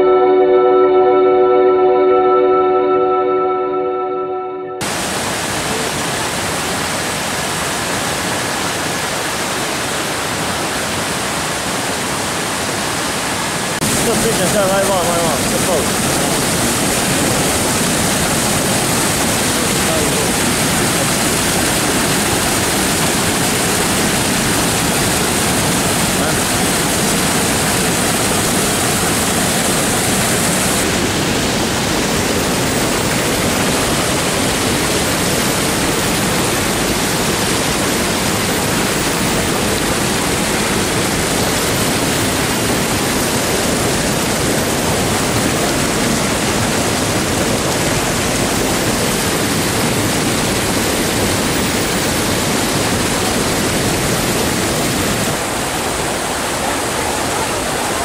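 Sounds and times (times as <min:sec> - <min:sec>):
stream rushing over rocks: 0:04.8 - 0:58.0.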